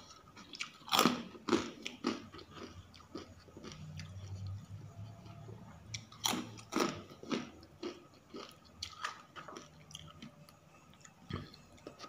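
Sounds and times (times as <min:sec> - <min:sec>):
crunchy food chewing: 0:00.0 - 0:12.0.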